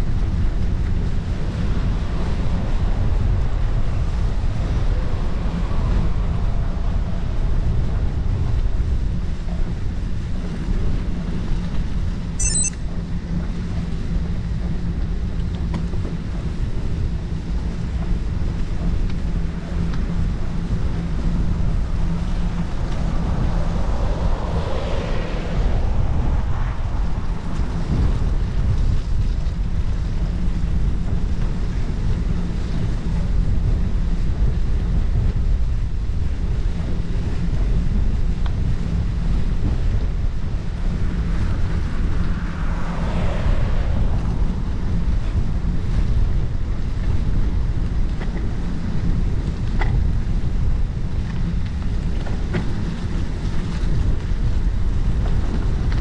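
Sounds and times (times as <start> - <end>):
low rumble of air: 0.0 - 56.0
wind buffeting microphone: 0.0 - 56.0.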